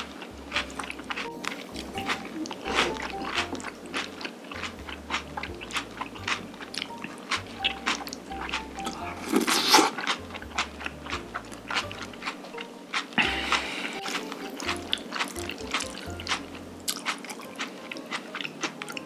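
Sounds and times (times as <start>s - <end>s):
crunchy chewing: 0.0s - 19.0s
light background music: 0.0s - 19.0s.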